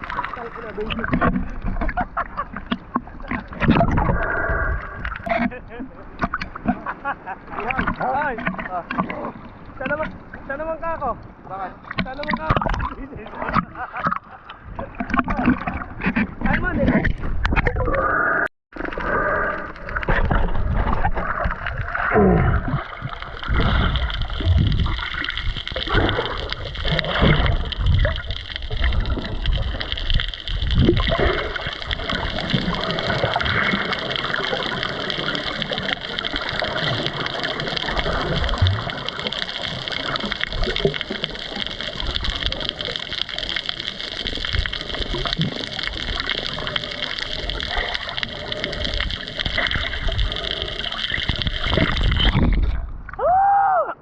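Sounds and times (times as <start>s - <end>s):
underwater gurgling and sloshing: 0.0s - 53.2s.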